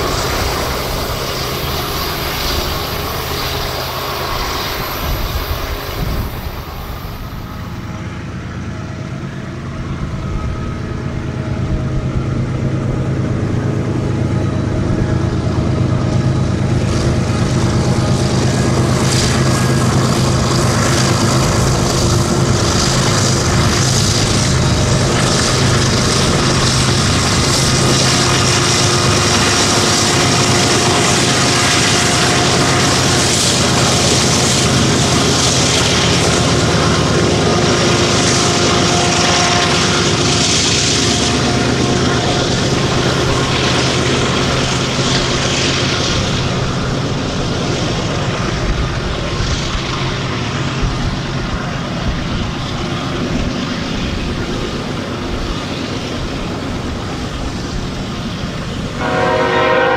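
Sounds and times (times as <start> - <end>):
locomotive engine drone: 0.0 - 59.9
wheels rumbling on rail: 0.0 - 59.9.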